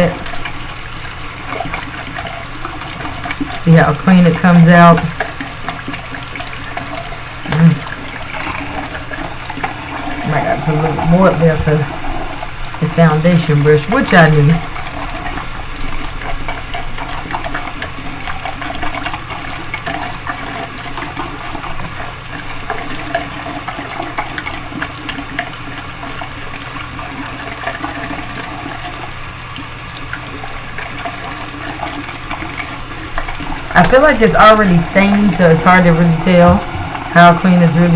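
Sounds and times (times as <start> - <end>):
water running into sink: 0.0 - 37.9.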